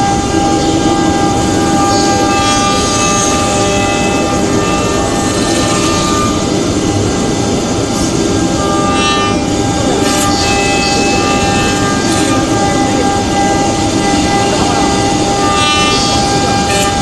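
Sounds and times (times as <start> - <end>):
high-pitched machine tones: 0.0 - 17.0
router spindle machining wood: 0.0 - 17.0.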